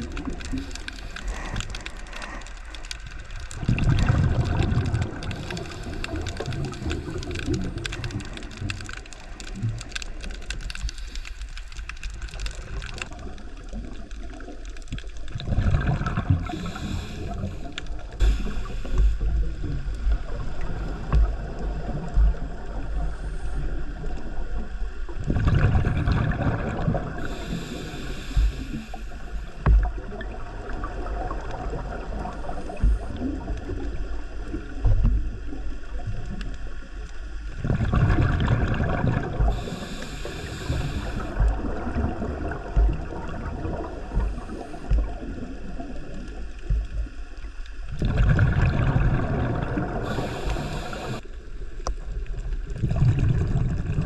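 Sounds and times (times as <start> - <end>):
constant low rumble: 0.0 - 54.0
underwater bubbles gurgling: 0.0 - 54.0.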